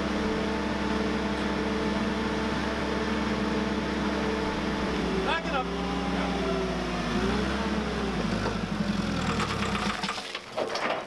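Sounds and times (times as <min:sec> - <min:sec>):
forklift engine running: 0:00.0 - 0:10.3.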